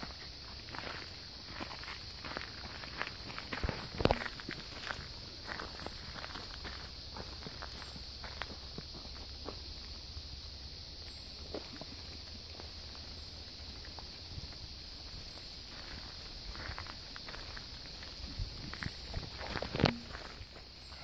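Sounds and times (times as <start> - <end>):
footsteps on gravel: 0.0 - 9.8, 13.6 - 21.0.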